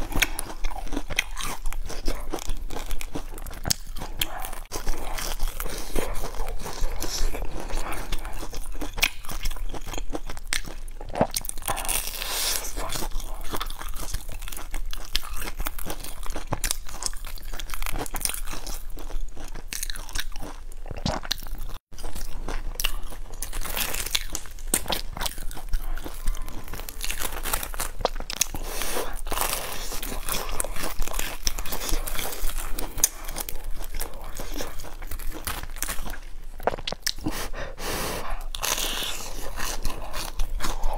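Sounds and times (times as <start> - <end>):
crunchy biting and chewing: 0.0 - 40.9.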